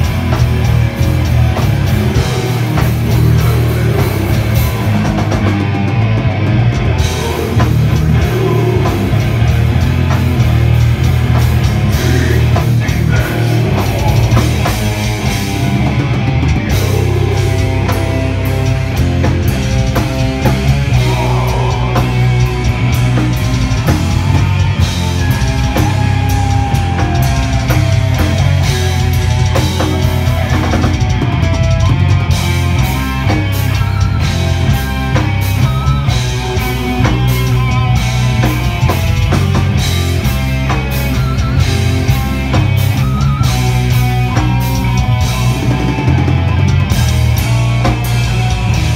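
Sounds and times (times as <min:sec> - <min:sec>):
metal band playing live: 0:00.0 - 0:48.9.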